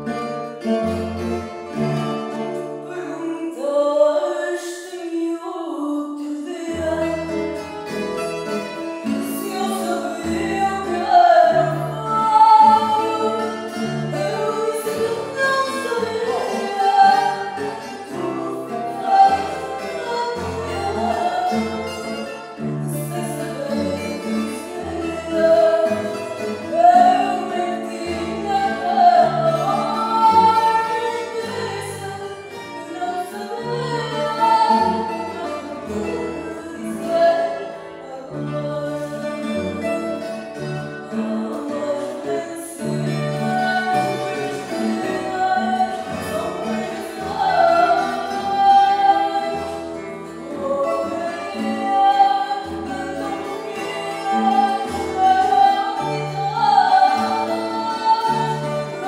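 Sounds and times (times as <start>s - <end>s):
guitars playing: 0.0s - 4.9s, 5.7s - 59.0s
woman singing: 2.1s - 59.0s.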